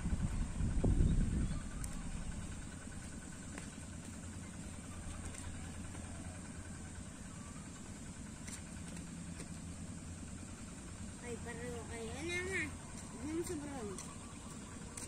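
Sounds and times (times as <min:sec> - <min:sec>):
motor idling hum: 0:00.0 - 0:15.0.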